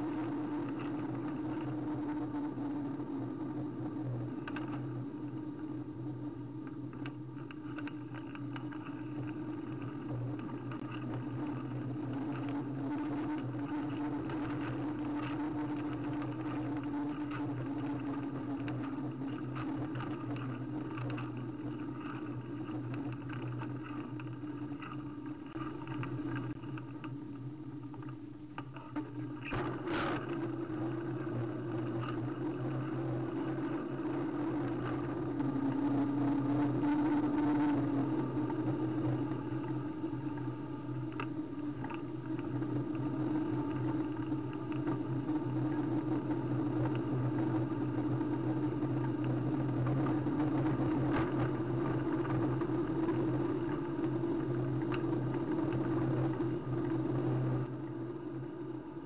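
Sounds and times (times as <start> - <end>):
bicycle riding hum: 0.0 - 59.0.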